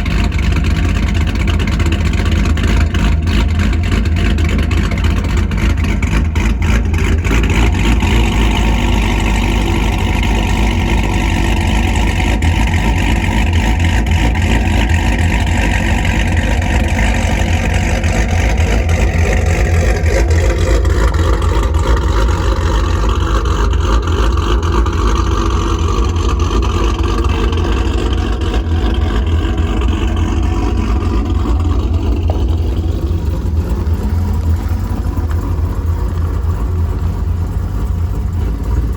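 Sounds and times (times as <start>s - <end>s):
car engine deep exhaust rumble: 0.0s - 38.9s.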